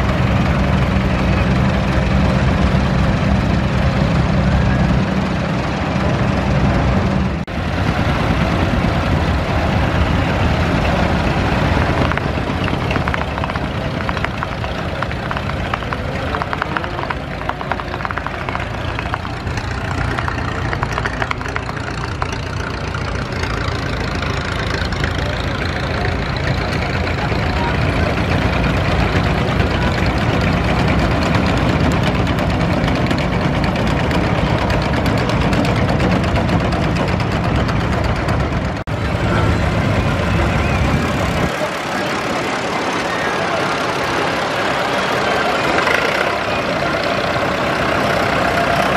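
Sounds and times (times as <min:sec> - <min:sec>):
deeper engine: 0:00.0 - 0:48.9
rapid knocking engine: 0:00.0 - 0:48.9
vintage tractor engines running: 0:00.0 - 0:48.9.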